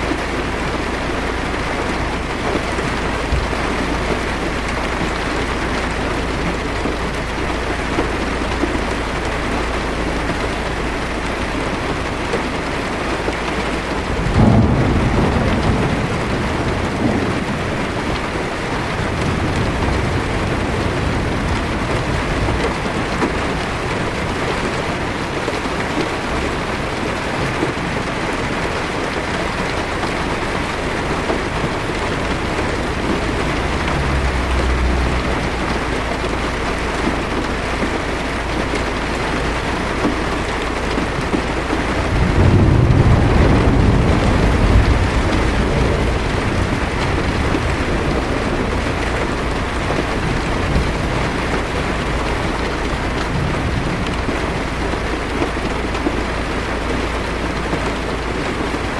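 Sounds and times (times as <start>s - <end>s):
heavy rain on car roof: 0.0s - 58.9s
thunder rumble: 0.0s - 58.9s.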